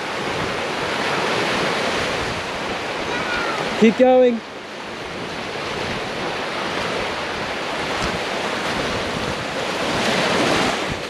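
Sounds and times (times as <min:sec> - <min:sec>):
small waves breaking on sand: 0:00.0 - 0:11.0.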